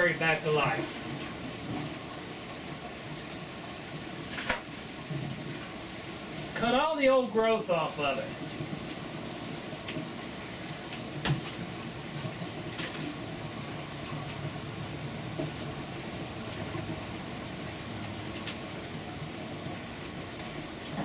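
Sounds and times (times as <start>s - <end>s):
water trickling through pipes: 0.0s - 21.0s.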